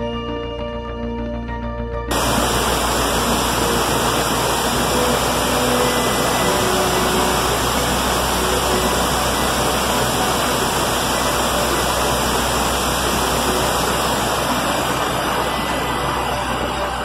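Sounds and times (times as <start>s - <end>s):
waterfall rushing: 2.1s - 17.0s.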